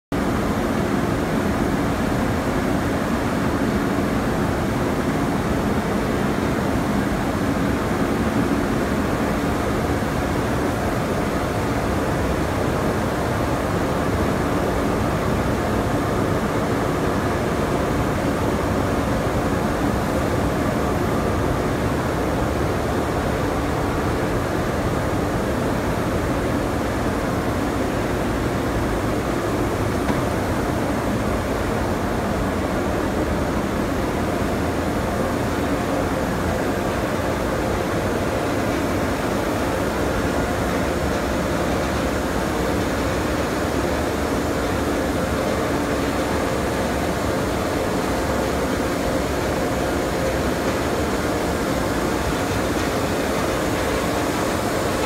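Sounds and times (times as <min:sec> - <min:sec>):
dryer fans droning: 0:00.1 - 0:55.0.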